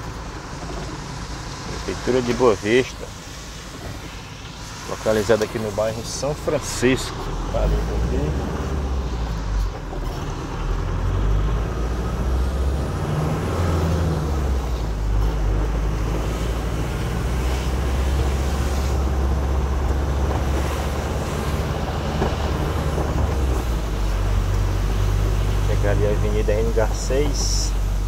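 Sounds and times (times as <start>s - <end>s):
engine and road drone: 0.0s - 28.0s
tyre hiss on wet road: 0.0s - 28.0s.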